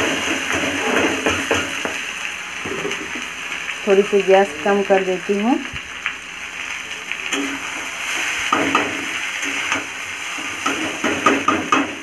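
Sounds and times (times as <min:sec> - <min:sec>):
noodles sizzling in oil: 0:00.0 - 0:12.0.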